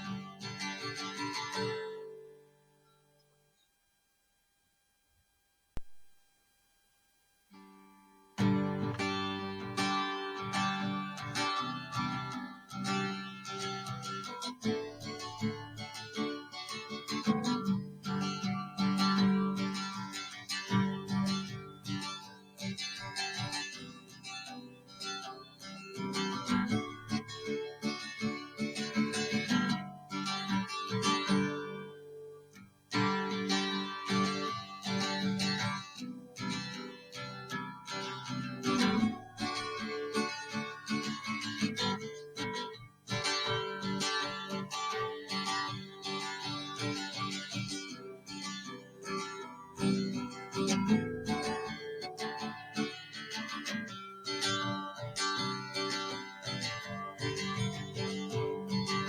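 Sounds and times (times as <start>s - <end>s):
strummed guitar chords: 0.0s - 2.5s, 7.6s - 59.0s.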